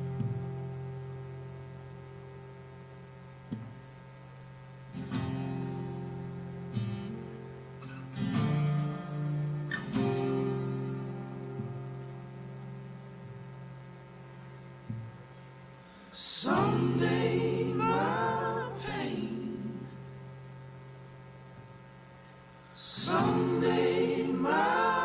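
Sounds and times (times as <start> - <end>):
acoustic guitar strummed chords: 0.0 - 25.0.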